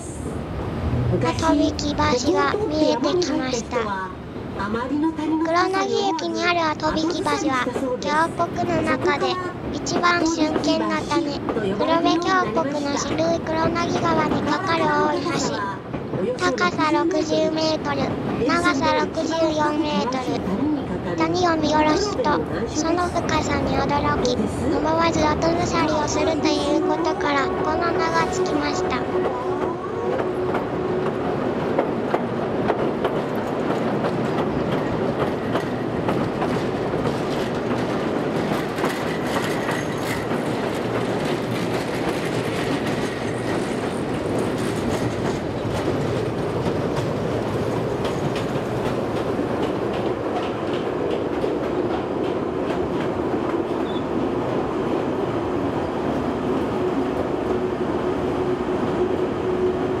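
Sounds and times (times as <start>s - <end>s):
train wheels rumbling on rail: 0.0s - 60.0s
clickety-clack over rail joints: 5.8s - 57.7s.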